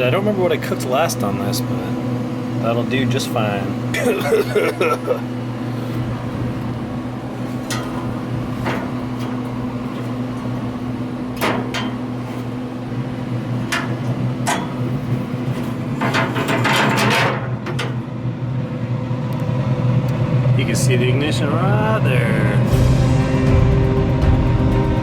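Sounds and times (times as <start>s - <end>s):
grill fan humming: 0.0s - 25.0s.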